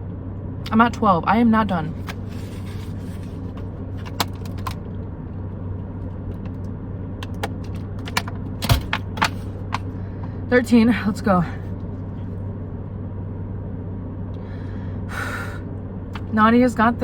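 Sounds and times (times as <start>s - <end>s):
low hum in car cabin: 0.0s - 17.0s.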